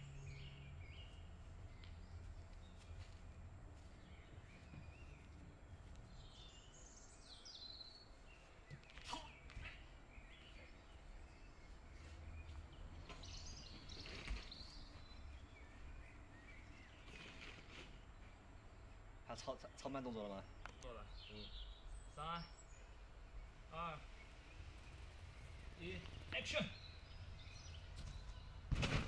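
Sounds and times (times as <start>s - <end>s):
faint bird chirps: 4.1s - 28.7s.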